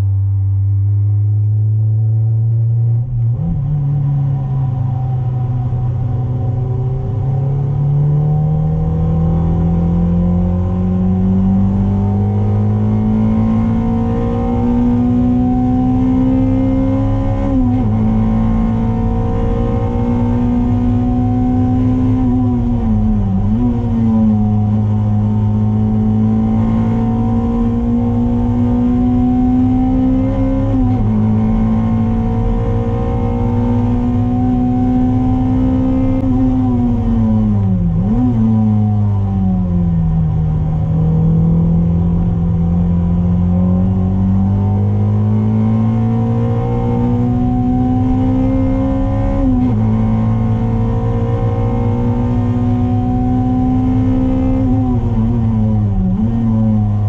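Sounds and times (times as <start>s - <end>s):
low road drone: 0.0s - 57.0s
car engine revving high: 3.2s - 57.0s.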